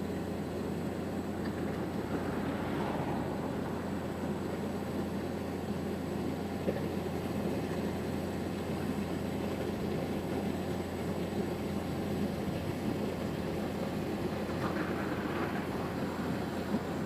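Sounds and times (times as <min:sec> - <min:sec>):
heavy machinery engine drone: 0:00.0 - 0:17.0.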